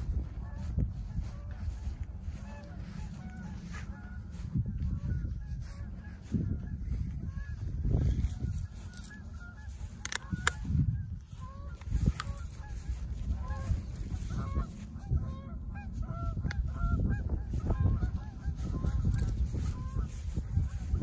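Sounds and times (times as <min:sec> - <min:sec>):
geese honking: 0:00.0 - 0:21.0
wind rumble on microphone: 0:00.0 - 0:21.0.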